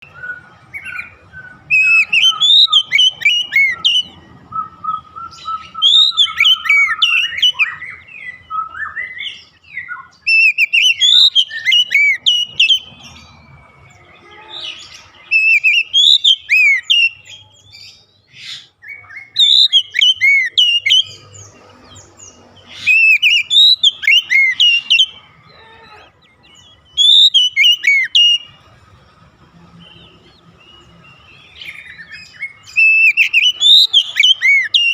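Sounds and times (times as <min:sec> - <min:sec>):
bird singing whistled notes: 0:00.0 - 0:25.4, 0:26.3 - 0:28.7, 0:29.6 - 0:34.9.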